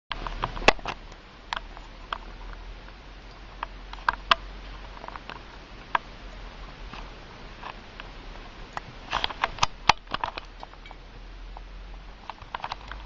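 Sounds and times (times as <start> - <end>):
faint steady hiss: 0.1 - 13.0.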